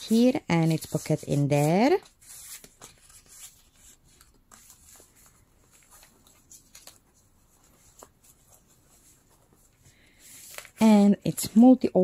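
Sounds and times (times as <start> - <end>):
paper rustling: 0.0 - 11.7.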